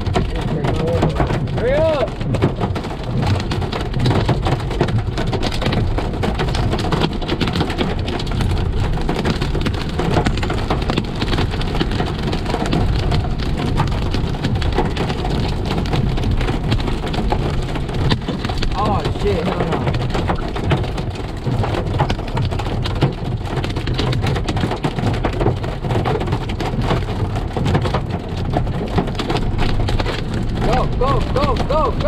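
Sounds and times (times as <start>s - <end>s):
heavy rain pelting a car: 0.0s - 32.0s
vehicle low rumble: 0.0s - 32.0s.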